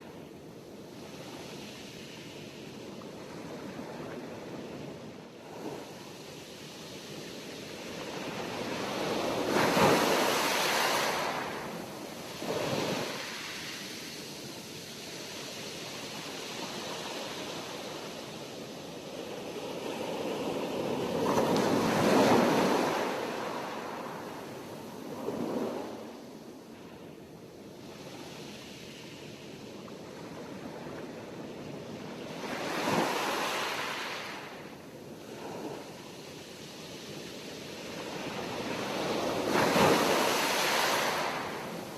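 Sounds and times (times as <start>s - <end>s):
sea waves breaking on shore: 3.2s - 26.5s, 30.1s - 41.9s.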